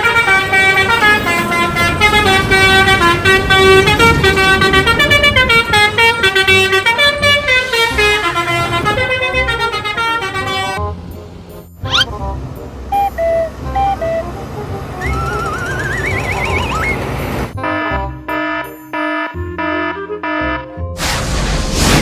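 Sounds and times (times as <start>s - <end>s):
bus melody horn playing: 0.0s - 20.8s.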